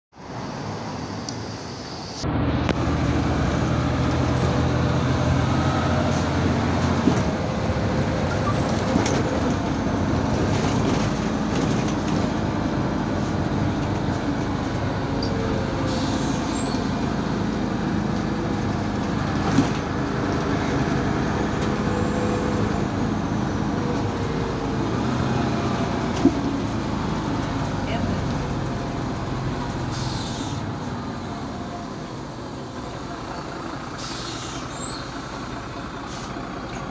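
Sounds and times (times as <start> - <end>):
bus engine and road noise: 0.1 - 36.9.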